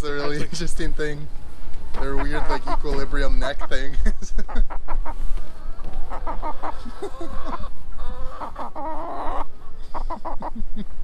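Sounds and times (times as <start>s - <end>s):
hen clucking: 0.0s - 0.8s, 1.7s - 10.9s.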